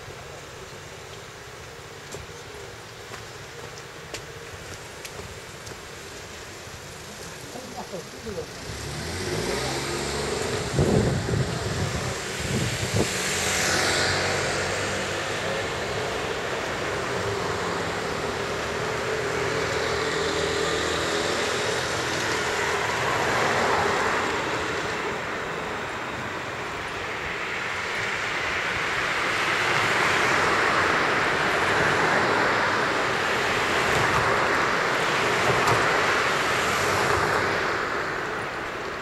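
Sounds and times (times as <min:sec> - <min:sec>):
vehicle rushing noise: 0:07.8 - 0:39.0.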